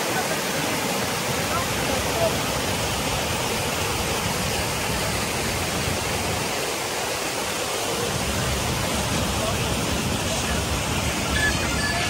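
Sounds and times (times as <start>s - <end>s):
small waterfall rushing and splashing: 0.0s - 12.0s.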